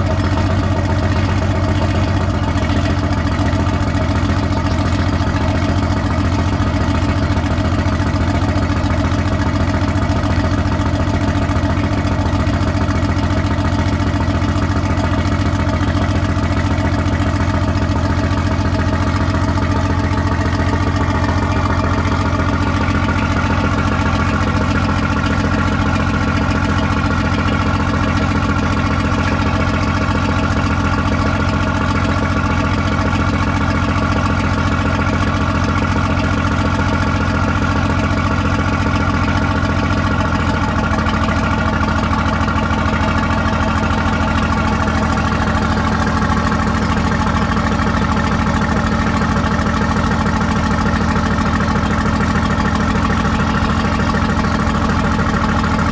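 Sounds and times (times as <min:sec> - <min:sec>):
boat engine idling: 0:00.0 - 0:55.9.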